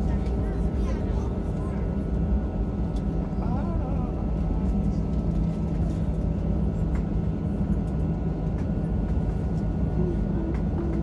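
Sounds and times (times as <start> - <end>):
airliner rolling rumble: 0.0 - 11.0
jet engine drone: 0.0 - 11.0.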